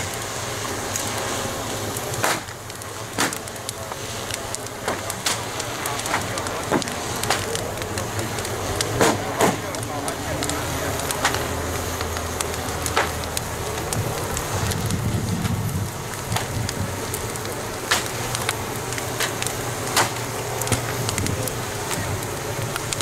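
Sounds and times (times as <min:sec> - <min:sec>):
bonfire rushing: 0:00.0 - 0:23.0
fire crackling and popping: 0:00.0 - 0:23.0.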